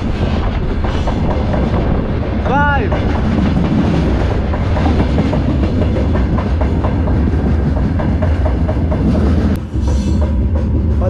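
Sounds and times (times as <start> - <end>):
train wagons rumbling: 0.0 - 11.0
wheels clacking over rails: 0.0 - 11.0.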